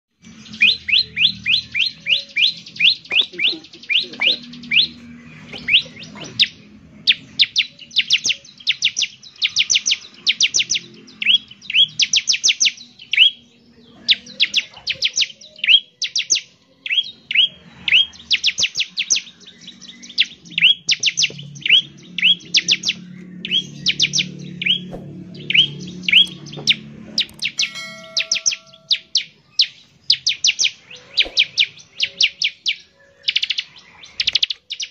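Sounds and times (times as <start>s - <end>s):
bird singing rapid high notes: 0.1s - 34.9s.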